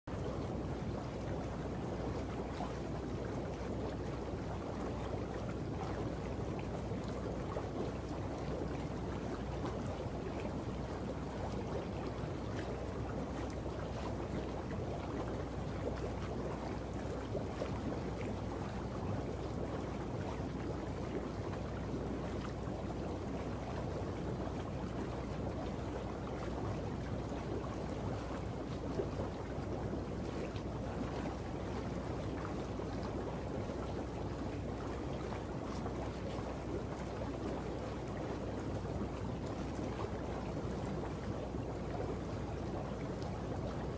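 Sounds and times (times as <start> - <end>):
water boiling: 0.1 - 43.9.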